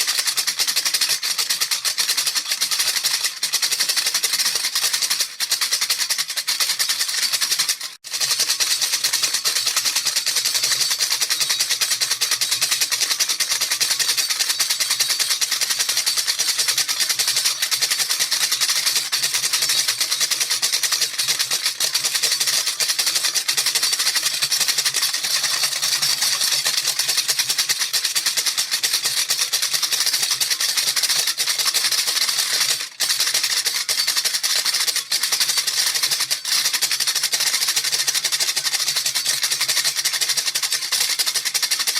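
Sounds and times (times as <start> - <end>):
baby rattle shaken rapidly: 0.0 - 41.9.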